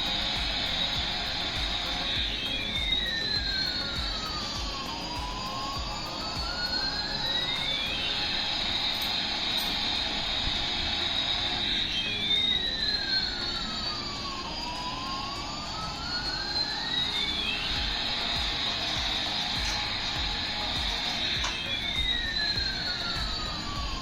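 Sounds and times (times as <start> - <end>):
whistling tones sweeping: 0.0 - 24.0.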